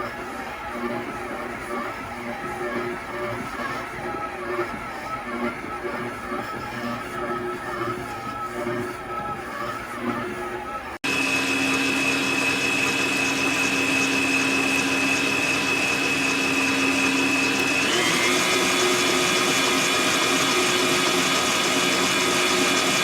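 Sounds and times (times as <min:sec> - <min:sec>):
stand mixer motor whine: 0:00.0 - 0:23.0.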